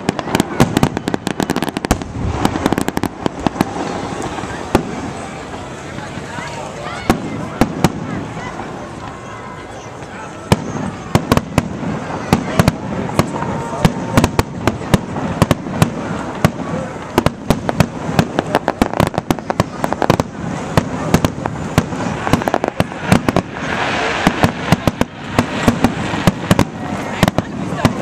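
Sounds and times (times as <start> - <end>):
fireworks crackle: 0.0 - 28.0.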